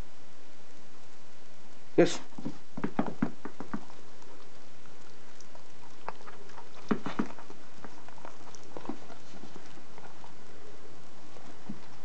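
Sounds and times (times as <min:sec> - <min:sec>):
dog chewing and licking: 0:02.3 - 0:12.0.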